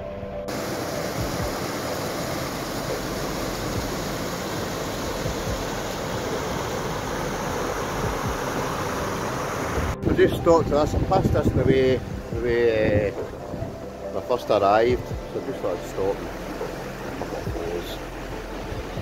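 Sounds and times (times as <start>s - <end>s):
stream and waterfall rushing: 0.4s - 19.0s.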